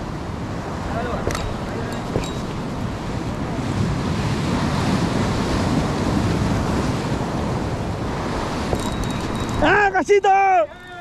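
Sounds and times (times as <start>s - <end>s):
ocean surf on rocky shore: 0.0s - 11.0s
wind rumbling on microphone: 0.0s - 11.0s.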